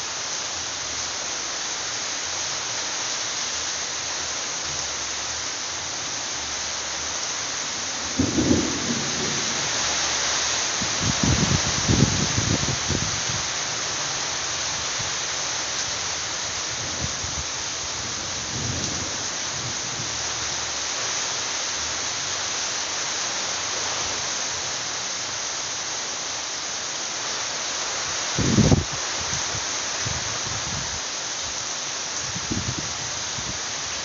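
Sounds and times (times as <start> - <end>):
heavy rain on leaves: 0.0 - 34.0.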